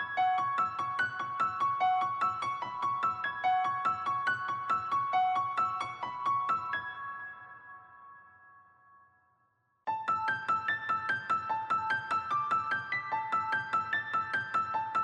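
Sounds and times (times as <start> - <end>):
gentle piano melody: 0.0 - 9.2, 9.9 - 15.0.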